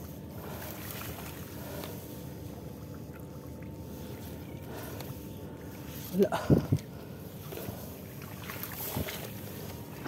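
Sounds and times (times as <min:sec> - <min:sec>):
water sloshing from wading: 0:00.0 - 0:10.0.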